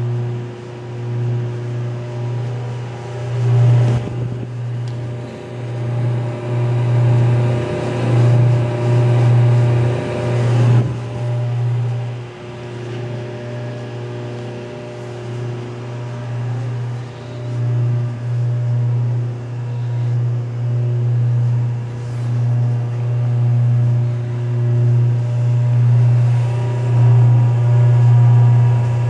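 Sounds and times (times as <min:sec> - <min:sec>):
electric motor humming: 0:00.0 - 0:29.0.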